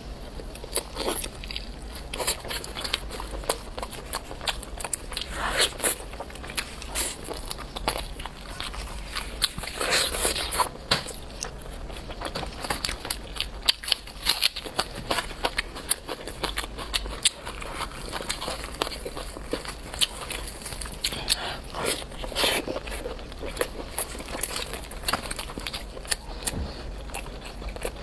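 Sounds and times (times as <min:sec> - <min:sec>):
chewing and biting: 0:00.2 - 0:28.0.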